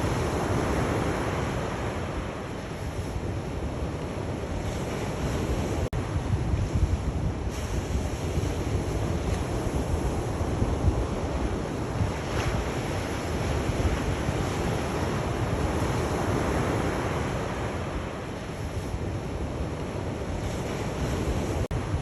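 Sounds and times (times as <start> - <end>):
waves washing onto shore: 0.0 - 22.0
wind rumble on microphone: 0.0 - 22.0.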